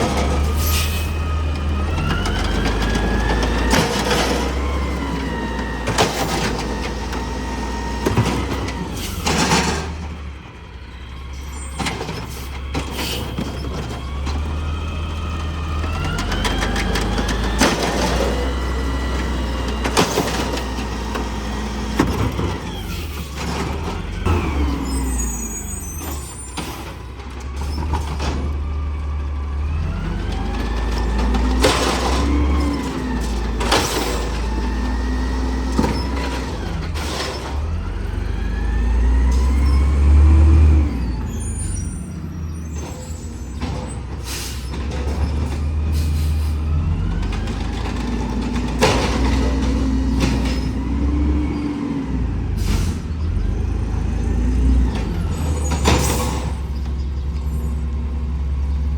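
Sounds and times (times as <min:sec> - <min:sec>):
garbage truck engine: 0:00.0 - 0:58.9.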